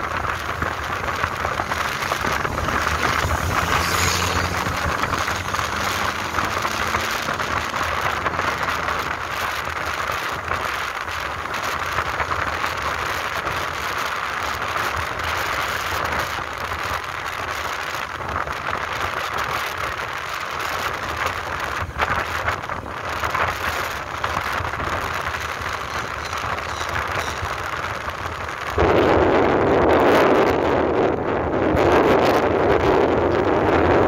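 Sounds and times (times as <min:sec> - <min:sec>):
motorbike engine and road noise: 0:00.0 - 0:34.0
wind rushing over microphone: 0:00.0 - 0:34.0.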